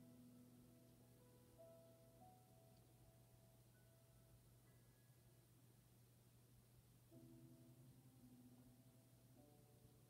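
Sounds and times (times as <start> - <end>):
soft slow background music: 0.0 - 6.0, 6.9 - 10.0.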